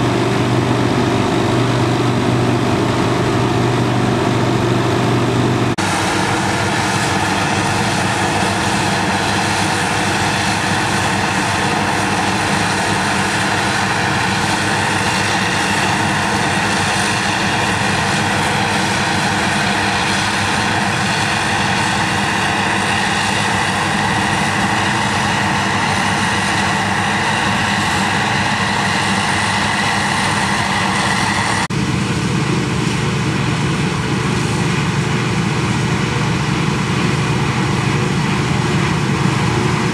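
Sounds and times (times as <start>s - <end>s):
forage harvester running: 0.0s - 39.9s.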